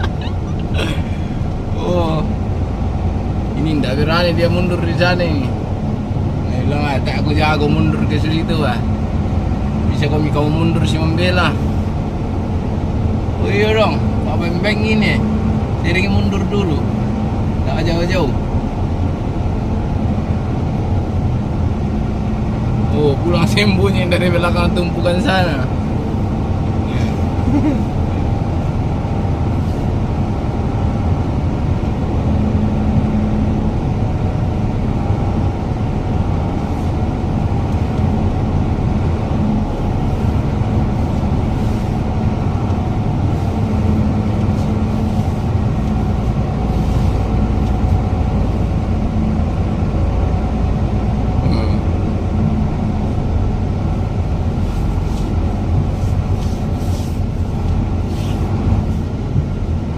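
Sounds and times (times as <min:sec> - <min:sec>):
heavy truck engine rumbling: 0:00.0 - 0:59.9.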